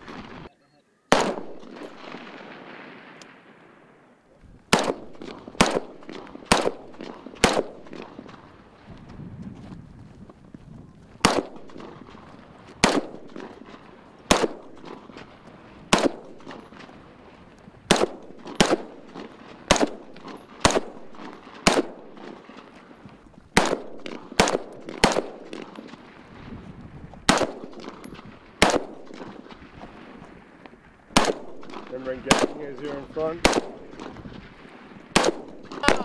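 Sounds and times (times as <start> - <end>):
rifle single shots: 0.0 - 0.5, 1.1 - 8.8, 11.2 - 26.5, 27.2 - 36.0.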